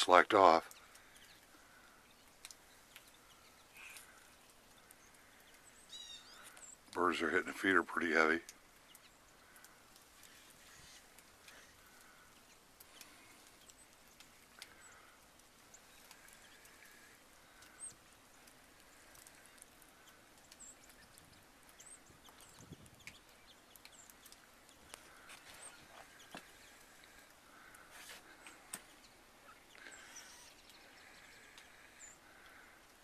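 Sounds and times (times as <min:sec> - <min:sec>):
small birds chirping: 0:00.0 - 0:33.0
light ticks: 0:00.6 - 0:07.0, 0:08.0 - 0:33.0.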